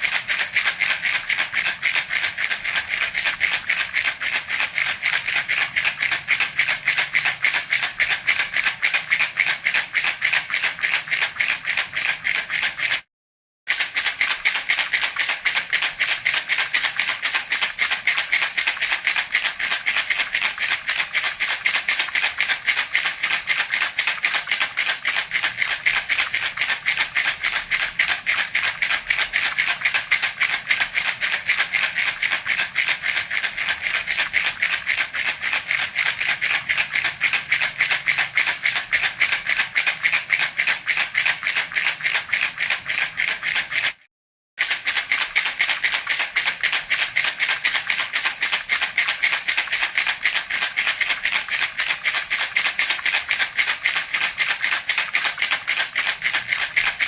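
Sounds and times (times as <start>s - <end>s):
baby rattle shaking: 0.0s - 13.1s, 13.7s - 57.0s.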